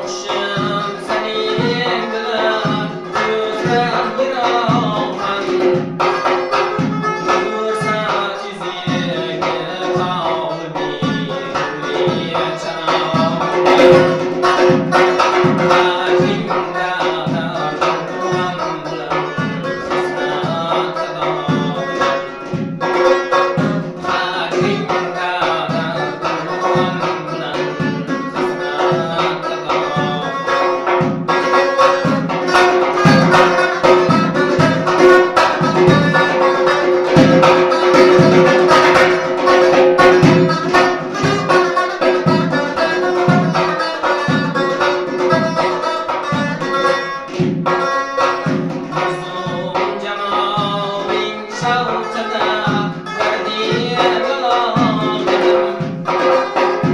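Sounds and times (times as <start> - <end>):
frame drum with jingling rings: 0.0 - 56.9
man singing: 0.0 - 56.9
plucked lute drone: 0.0 - 56.9.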